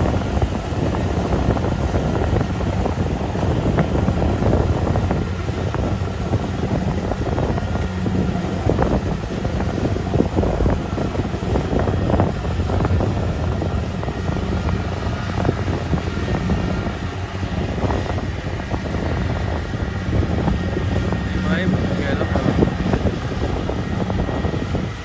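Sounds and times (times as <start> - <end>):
diesel engine drone: 0.0 - 25.0.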